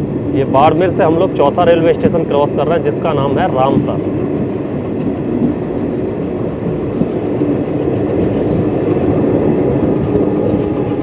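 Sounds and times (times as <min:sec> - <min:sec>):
train carriage rumble and rattle: 0:00.0 - 0:11.0.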